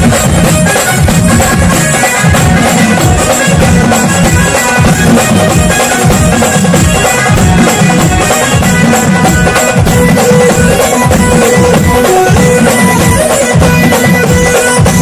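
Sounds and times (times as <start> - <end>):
folk devotional music: 0.0 - 15.0
steady drumbeat: 0.0 - 15.0.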